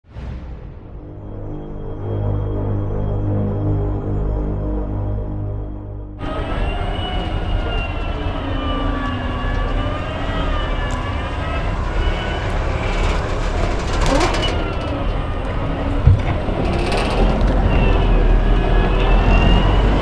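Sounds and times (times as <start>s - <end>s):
low rumble: 0.0s - 8.3s, 9.1s - 19.1s
electric truck whine: 1.0s - 20.0s.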